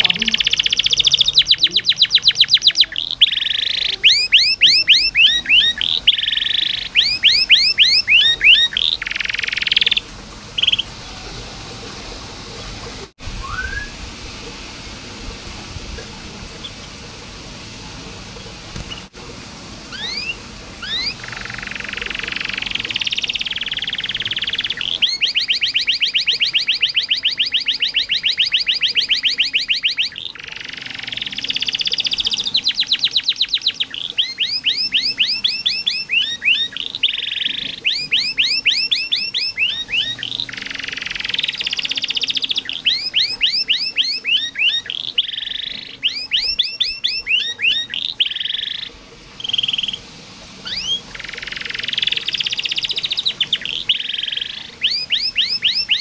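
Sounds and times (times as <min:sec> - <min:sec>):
canary singing fast trills: 0:00.0 - 0:11.2, 0:19.9 - 0:56.0.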